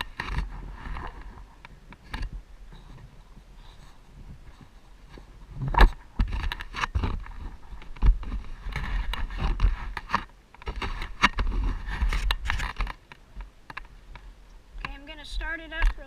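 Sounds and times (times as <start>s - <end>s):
scraping and rustling: 0.0s - 15.1s.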